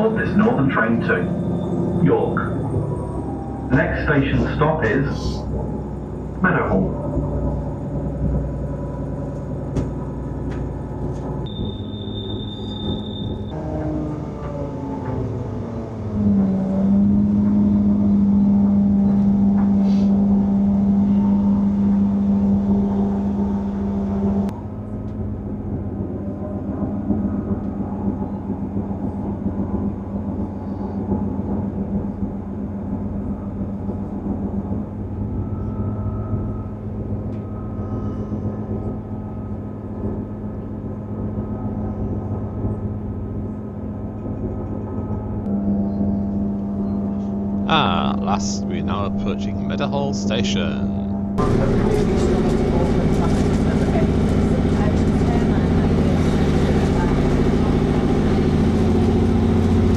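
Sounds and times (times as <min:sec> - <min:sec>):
train diesel engine hum: 0:00.0 - 0:59.9
wheel and track rumble: 0:00.0 - 0:59.9.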